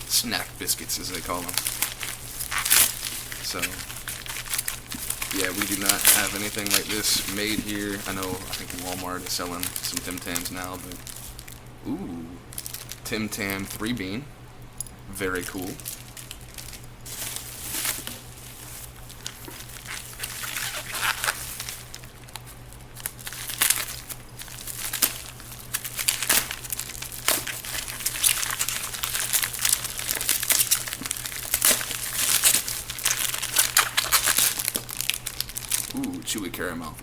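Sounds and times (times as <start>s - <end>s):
plastic wrappers crinkling: 0.0s - 11.8s, 12.5s - 14.2s, 14.8s - 36.9s.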